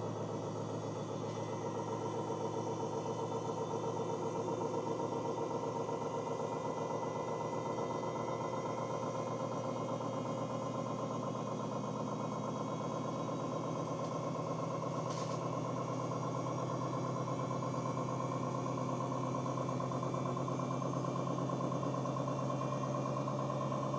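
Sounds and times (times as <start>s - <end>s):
washing machine spinning: 0.0s - 23.9s.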